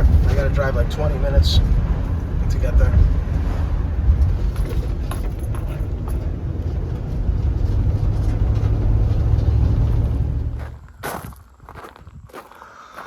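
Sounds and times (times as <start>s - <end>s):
truck road and engine rumble: 0.0s - 12.2s.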